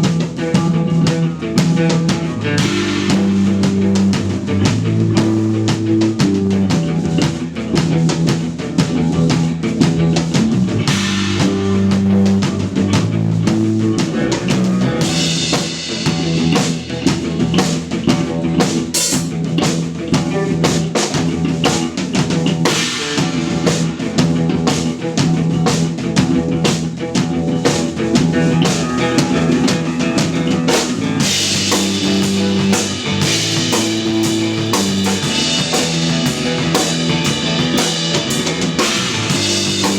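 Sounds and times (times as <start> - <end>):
drum kit beat: 0.0 - 39.9
electric bass: 0.0 - 39.9
electric guitar: 0.0 - 39.9.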